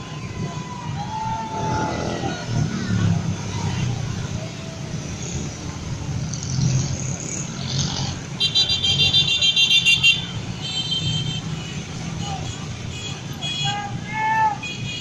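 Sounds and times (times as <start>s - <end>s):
scooter traffic: 0.0s - 15.0s.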